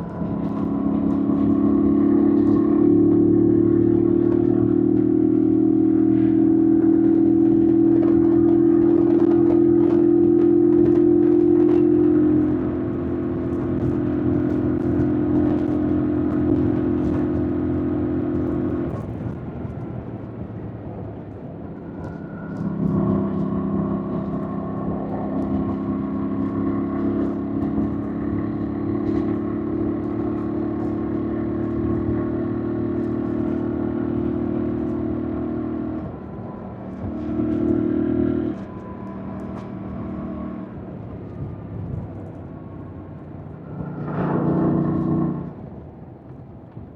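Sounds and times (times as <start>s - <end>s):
motorcycle engine: 0.0s - 19.3s, 21.6s - 45.8s.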